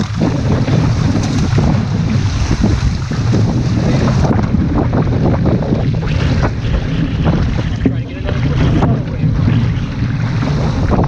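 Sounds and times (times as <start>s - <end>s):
water splashing against canoe hull: 0.0s - 11.0s
wind buffeting microphone: 0.0s - 11.0s.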